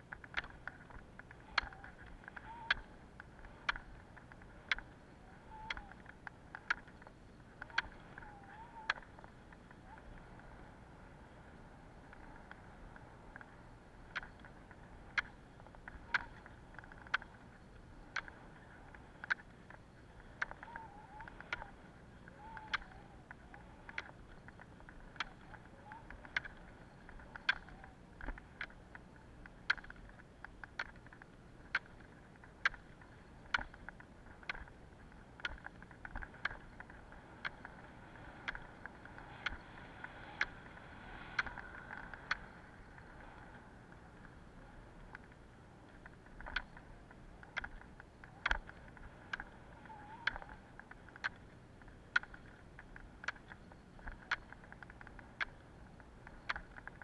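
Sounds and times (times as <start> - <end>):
faint steady hiss: 0.0 - 57.0
ski pole tips clicking on asphalt: 0.0 - 57.0.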